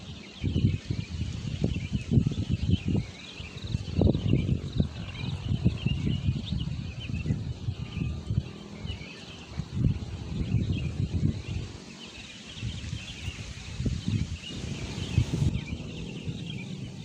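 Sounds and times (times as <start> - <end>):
birds chirping: 0.0 - 17.0
gusty wind buffeting microphone: 0.0 - 17.0.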